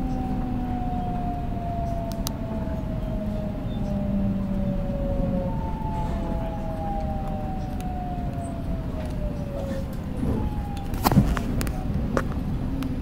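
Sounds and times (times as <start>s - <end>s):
subway train motor whine: 0.0s - 13.0s
train low rumble: 0.0s - 13.0s.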